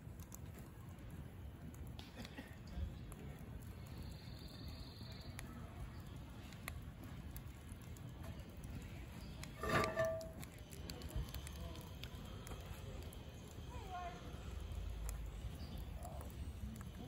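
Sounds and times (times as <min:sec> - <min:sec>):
fire popping and clicking: 0:00.0 - 0:17.0
wood fire hissing: 0:00.0 - 0:17.0.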